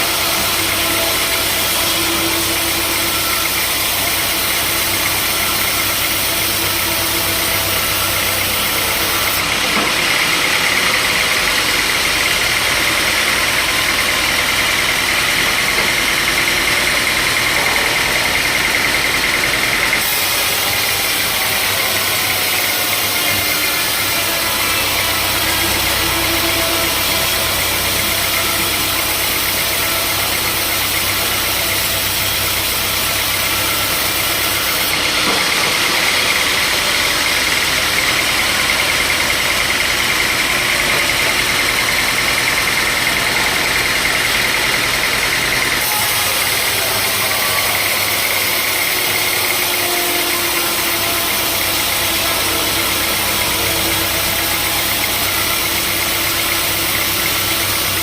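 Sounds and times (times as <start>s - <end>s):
high-pitched whine: 0.0s - 58.0s
sawmill machinery running: 0.0s - 58.0s.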